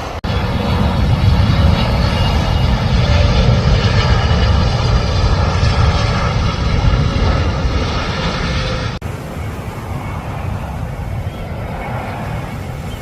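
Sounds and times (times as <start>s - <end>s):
jet airliner rumble: 0.0s - 13.0s.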